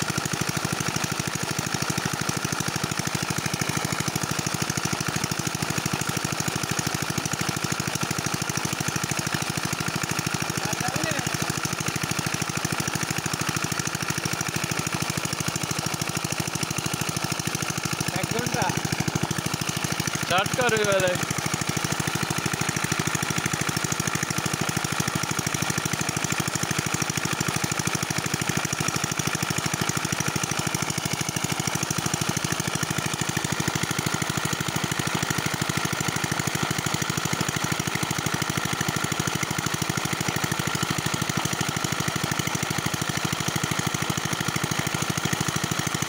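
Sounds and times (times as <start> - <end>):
diesel engine knocking: 0.0 - 46.0.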